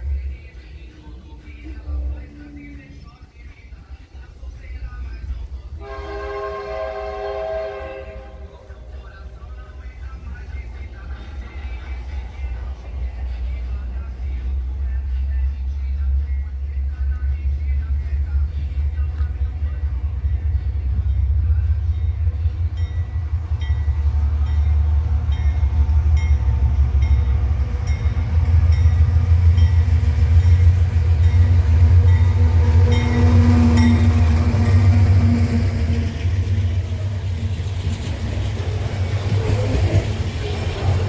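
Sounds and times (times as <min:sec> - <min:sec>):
freight train rumble: 0:00.0 - 0:41.0
regular train wheel ticking: 0:00.0 - 0:41.0.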